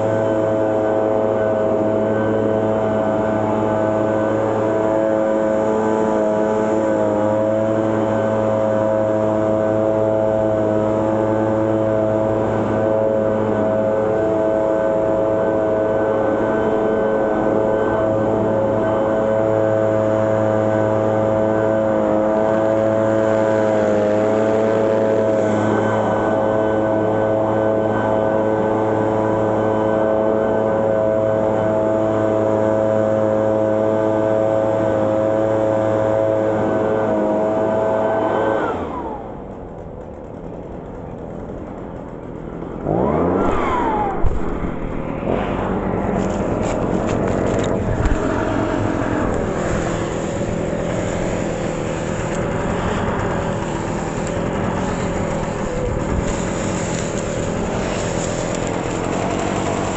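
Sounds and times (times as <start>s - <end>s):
leaf blower running: 0.0s - 59.9s.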